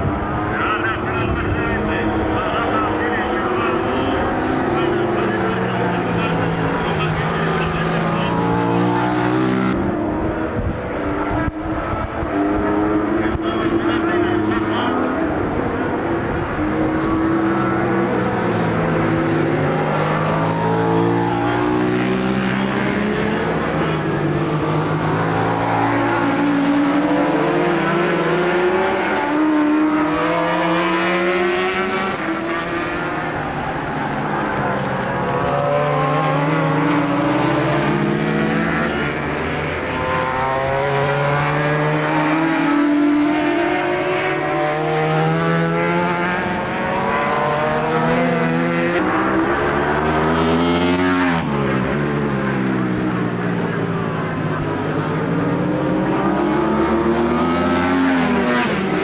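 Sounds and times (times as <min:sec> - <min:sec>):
racing motorcycle engines revving: 0:00.0 - 0:59.0
motorcycle passing close: 0:01.2 - 0:59.0.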